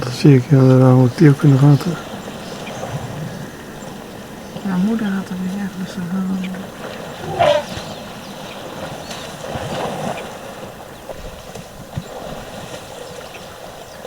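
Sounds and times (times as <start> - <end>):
elephants splashing water: 0.0 - 14.0.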